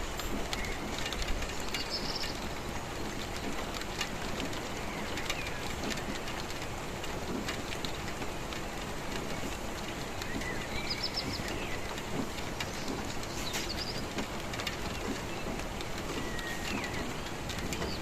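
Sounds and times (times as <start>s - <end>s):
raindrops ticking: 0.0s - 18.0s
steady rainfall hiss: 0.0s - 18.0s.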